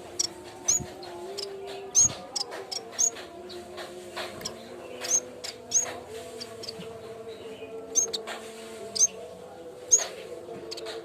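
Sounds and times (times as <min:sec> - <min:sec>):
bird chirping: 0:00.0 - 0:03.6, 0:04.3 - 0:08.3, 0:08.9 - 0:11.0.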